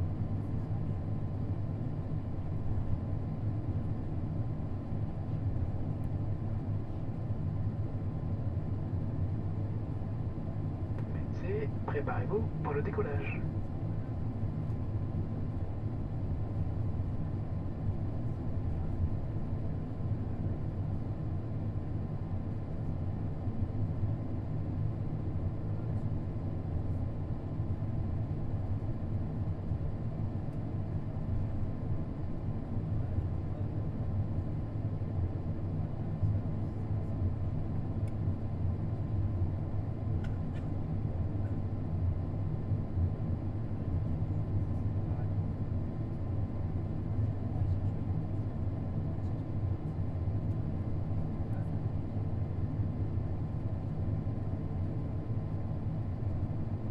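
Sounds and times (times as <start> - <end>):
aircraft cabin engine rumble: 0.0 - 56.9.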